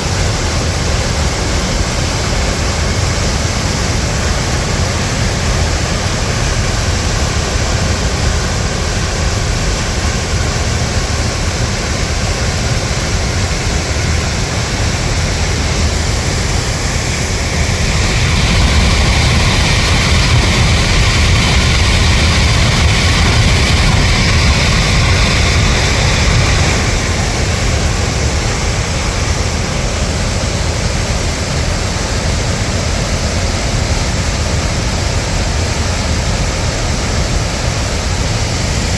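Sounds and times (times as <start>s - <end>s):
floodwater rushing: 0.0s - 38.9s.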